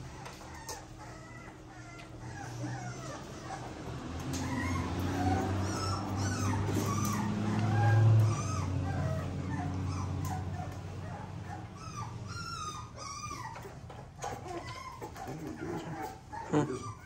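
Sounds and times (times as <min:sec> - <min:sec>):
puppies whimpering and squealing: 0:00.0 - 0:17.0.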